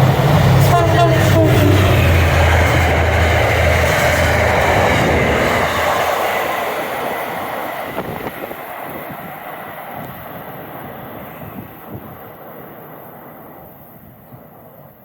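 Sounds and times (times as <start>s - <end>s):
train passing on rails: 0.0s - 15.0s.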